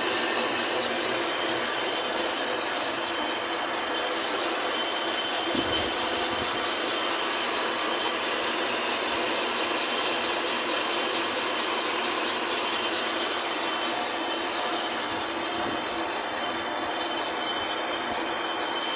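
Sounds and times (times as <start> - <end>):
boring machine cutting metal: 0.0 - 18.9.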